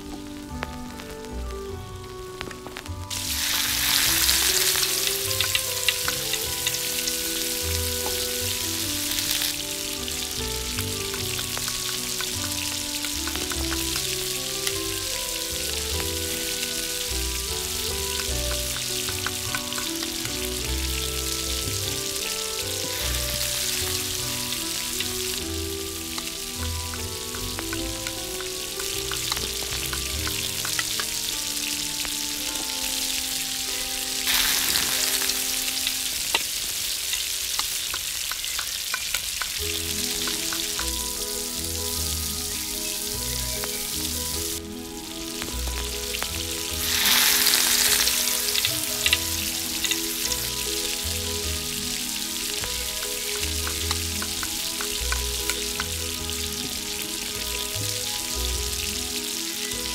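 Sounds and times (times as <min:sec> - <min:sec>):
soft background music: 0:00.0 - 0:37.9, 0:39.5 - 0:59.9
garlic sizzling in hot oil: 0:02.0 - 0:59.9.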